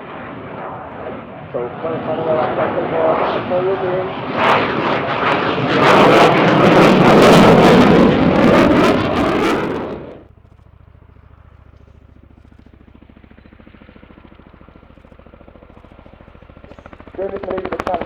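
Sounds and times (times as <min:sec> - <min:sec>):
helicopter rotor chop: 0:00.0 - 0:18.0
jet engine crackling roar: 0:00.0 - 0:18.0.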